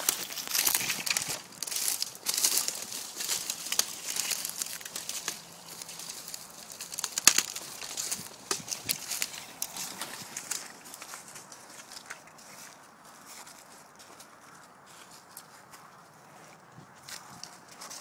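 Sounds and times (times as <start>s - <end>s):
rustling and crackling: 0.0s - 18.0s.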